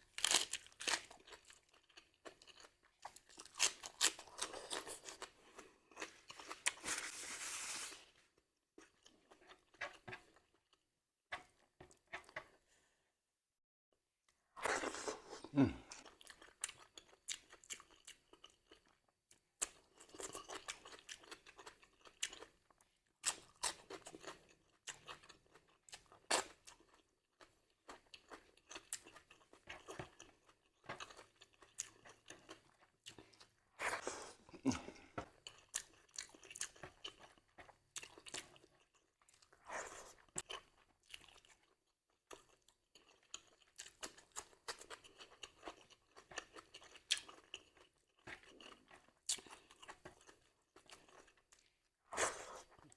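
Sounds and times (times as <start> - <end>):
person chewing crisp food: 0.0 - 8.2, 8.8 - 12.6, 14.6 - 52.9.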